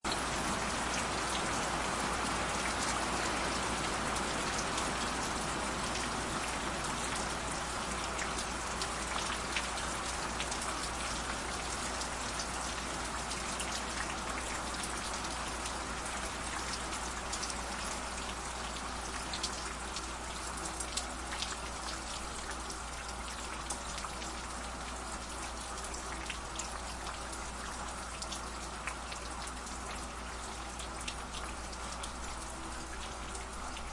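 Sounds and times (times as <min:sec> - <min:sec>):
stream water running: 0:00.0 - 0:33.9.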